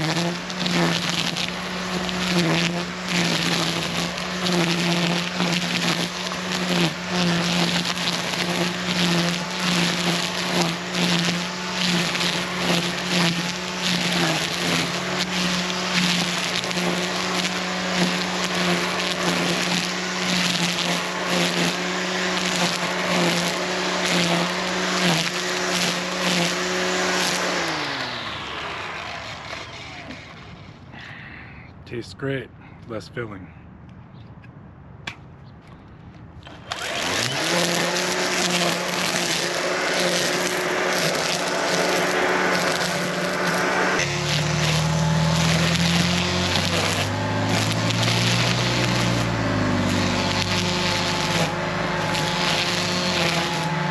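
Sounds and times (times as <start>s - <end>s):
crackling of cut growth: 0.0s - 30.6s, 36.4s - 53.9s
electric motor running: 0.0s - 30.6s, 36.5s - 53.9s.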